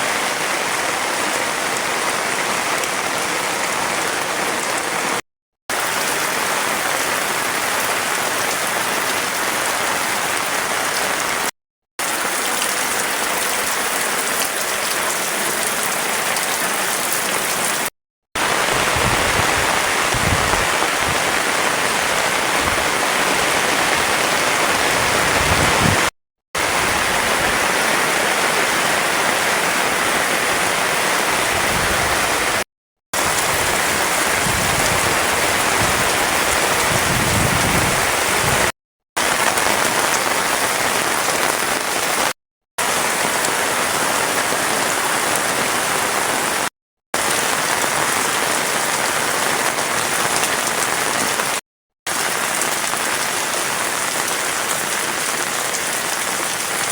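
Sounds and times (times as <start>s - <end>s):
heavy rain falling: 0.0s - 32.6s, 33.2s - 56.9s.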